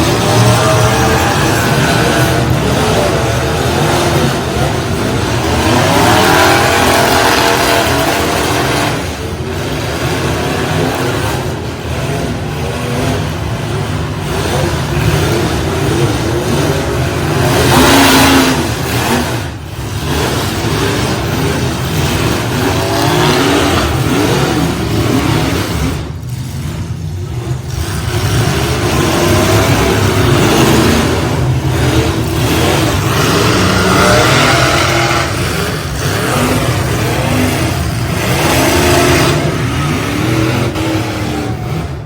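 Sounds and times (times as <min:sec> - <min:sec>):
truck engines revving: 0:00.0 - 0:42.0.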